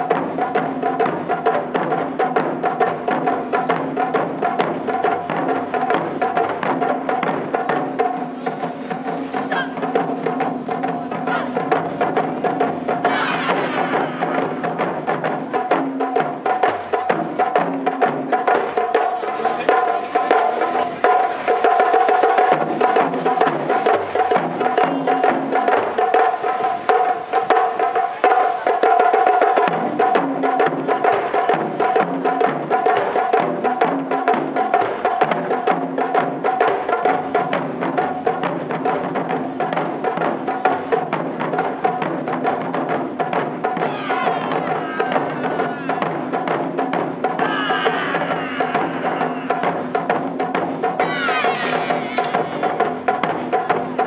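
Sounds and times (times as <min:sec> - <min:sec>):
taiko drums beaten in fast rhythm: 0:00.0 - 0:54.0.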